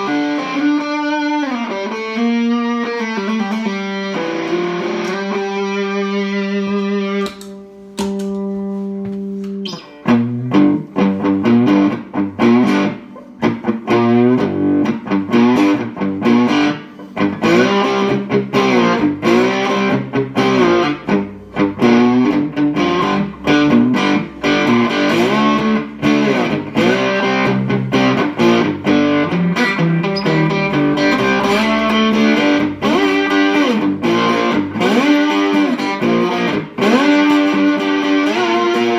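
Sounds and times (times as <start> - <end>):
slide guitar: 0.0 - 7.3, 8.4 - 38.9.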